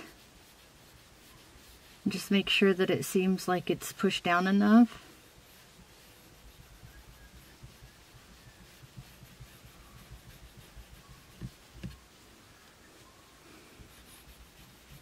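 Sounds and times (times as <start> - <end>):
cloth rubbing on glass: 0.0 - 15.0.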